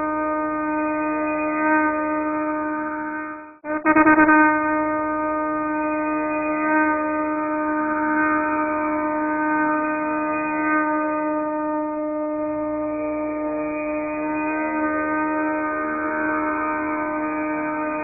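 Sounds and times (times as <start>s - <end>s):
conch shell blown: 0.0s - 18.0s.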